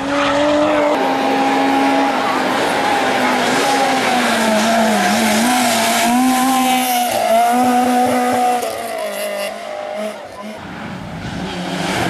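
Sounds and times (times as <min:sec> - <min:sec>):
race car engine running hard: 0:00.0 - 0:12.0.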